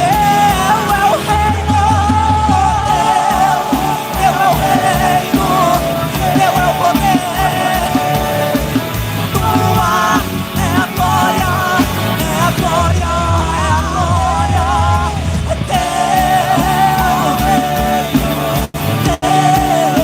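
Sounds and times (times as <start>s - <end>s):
bass: 0.0s - 20.0s
drum beat: 0.0s - 20.0s
person singing: 0.0s - 20.0s.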